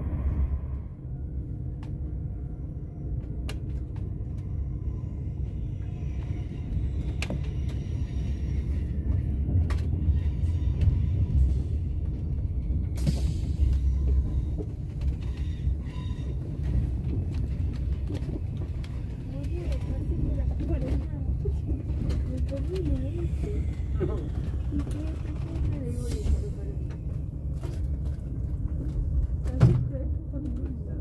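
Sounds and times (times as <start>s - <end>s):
train cabin rumble: 0.0s - 31.0s.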